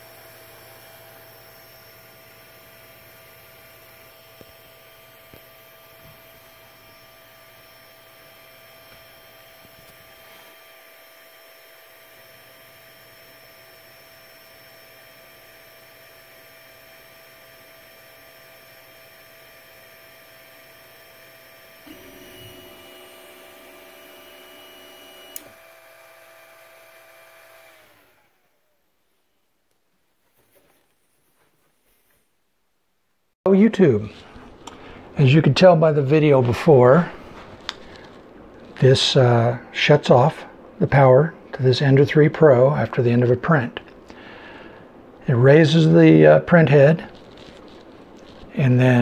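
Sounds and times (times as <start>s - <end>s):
cooling fans whirring: 0.0s - 28.8s, 33.5s - 49.0s.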